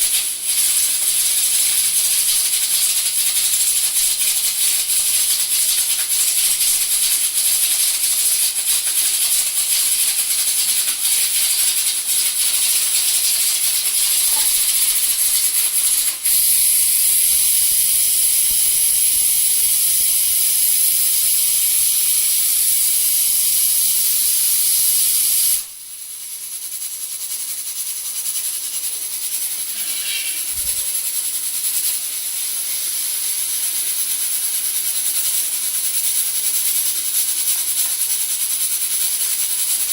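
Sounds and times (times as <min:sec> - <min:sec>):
pressure cooker steam hiss: 0:00.0 - 0:39.9.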